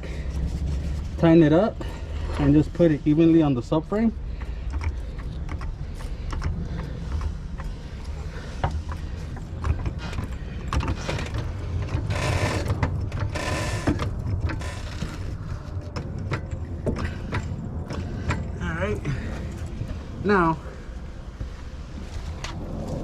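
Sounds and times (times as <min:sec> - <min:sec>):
floor jack pumping clicks and creaks: 0:00.0 - 0:20.2
low rumble: 0:00.0 - 0:23.0.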